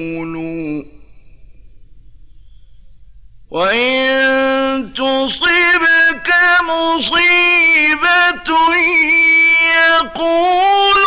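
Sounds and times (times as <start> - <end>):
man reciting melodically: 0.0 - 1.4, 3.5 - 11.0.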